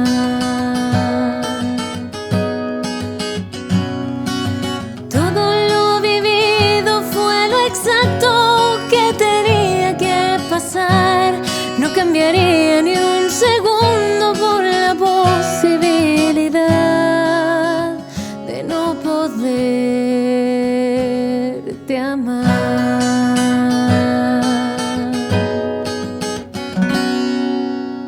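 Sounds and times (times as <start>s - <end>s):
woman singing: 0.0s - 26.4s
strummed acoustic guitar: 0.0s - 28.0s.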